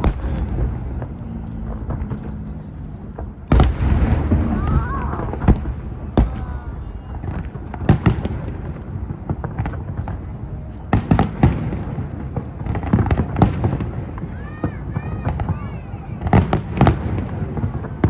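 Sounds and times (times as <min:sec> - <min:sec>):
crowd noise: 0:00.0 - 0:18.0
fireworks bursting with sharp bangs: 0:00.0 - 0:18.0.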